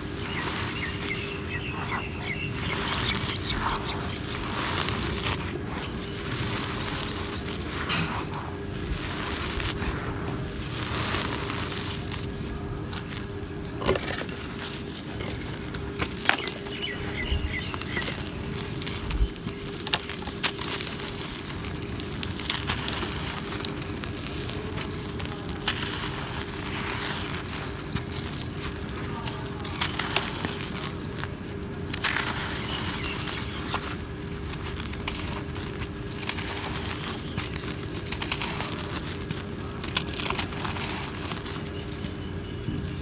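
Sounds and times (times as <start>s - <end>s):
cement pieces cracking: 0.0s - 43.0s
cement crumbling by hand: 2.6s - 43.0s.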